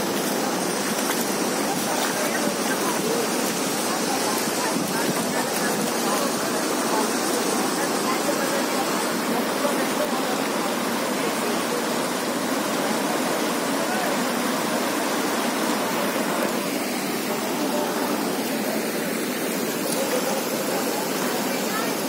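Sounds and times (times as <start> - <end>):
stream rushing over boulders: 0.0 - 22.0.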